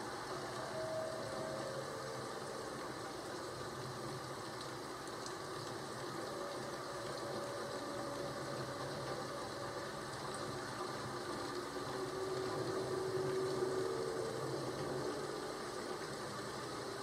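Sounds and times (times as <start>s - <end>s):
rain rushing: 0.0s - 17.0s.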